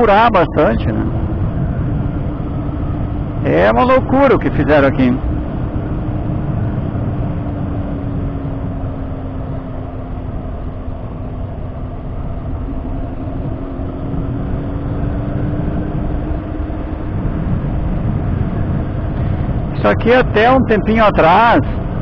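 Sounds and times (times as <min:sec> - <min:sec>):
motorcycle engine droning: 0:00.0 - 0:22.0
wind rumble on microphone: 0:00.0 - 0:22.0.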